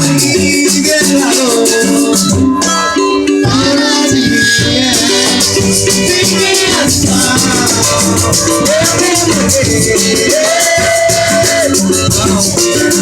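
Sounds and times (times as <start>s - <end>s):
shaker rhythm: 0.0s - 13.0s.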